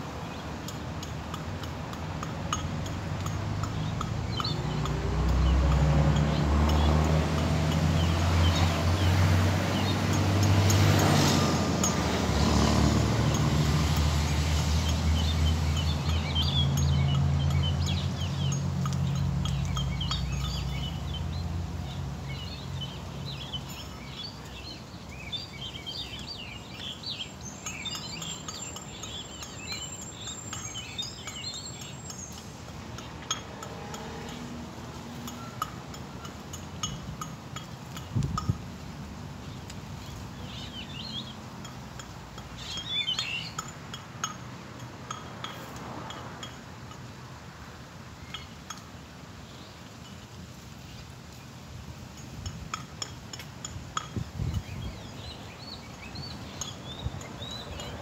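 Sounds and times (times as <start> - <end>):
birds chirping: 0.0 - 46.6, 52.2 - 58.0.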